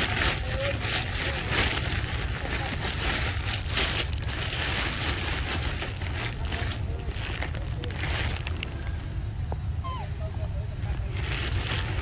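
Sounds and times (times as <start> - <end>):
crunching and rustling: 0.0 - 9.3, 10.8 - 12.0
steady low rumble: 0.0 - 12.0.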